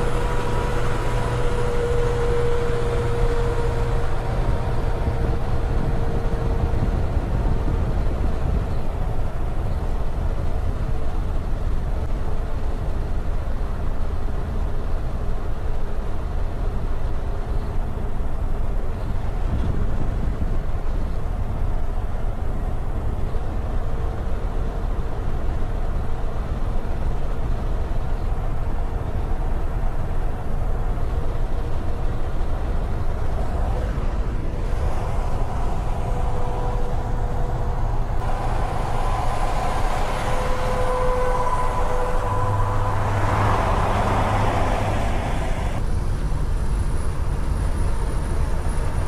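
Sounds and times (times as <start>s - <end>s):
road noise: 0.0s - 49.0s
truck engine rumble: 0.0s - 49.0s.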